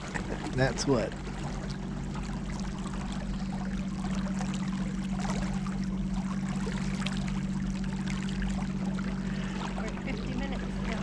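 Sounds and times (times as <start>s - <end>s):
boat motor running: 0.0s - 11.0s
water splashing along hull: 0.0s - 11.0s.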